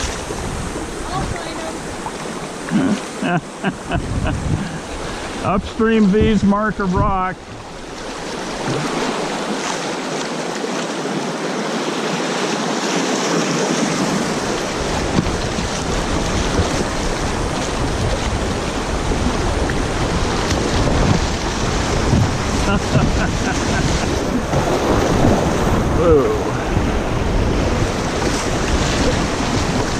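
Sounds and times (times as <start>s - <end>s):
wind buffeting microphone: 0.0s - 9.6s, 13.9s - 29.9s
water rushing over rocks: 0.0s - 29.9s.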